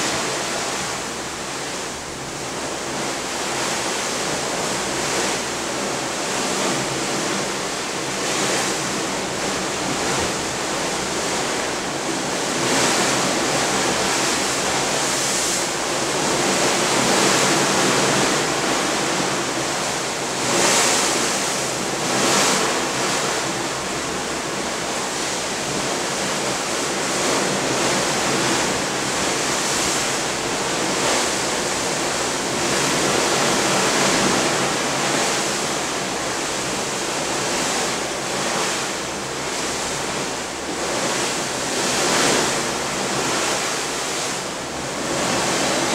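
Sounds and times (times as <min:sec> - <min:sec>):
waves rushing off ship bow: 0:00.0 - 0:45.9.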